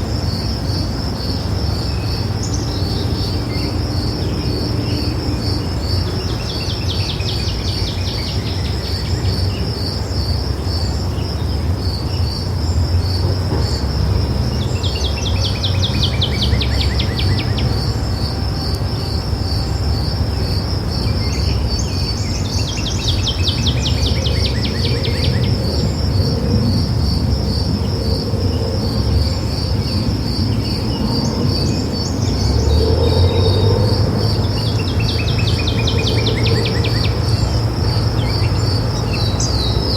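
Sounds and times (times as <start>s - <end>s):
insect chorus chirping: 0.0s - 39.9s.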